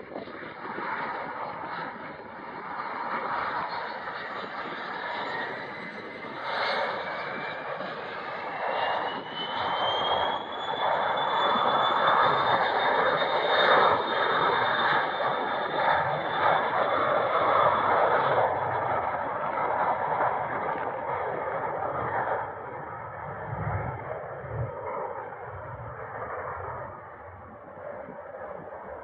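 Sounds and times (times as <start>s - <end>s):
jet engine high whine: 0.0s - 29.0s.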